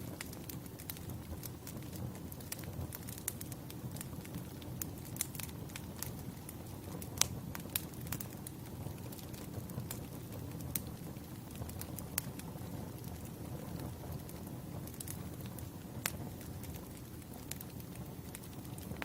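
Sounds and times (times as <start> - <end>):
fire crackles and pops: 0.0 - 19.0
low rumble of fire: 0.0 - 19.0.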